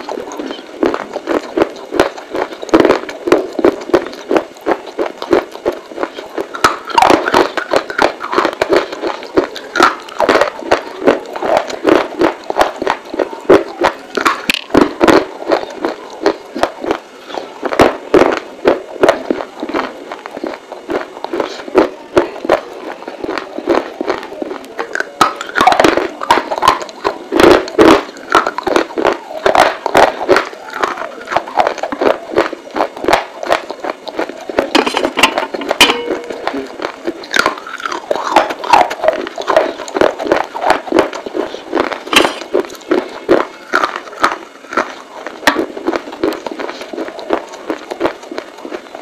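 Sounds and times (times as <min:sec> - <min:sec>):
crunchy chewing: 0:00.0 - 0:49.0.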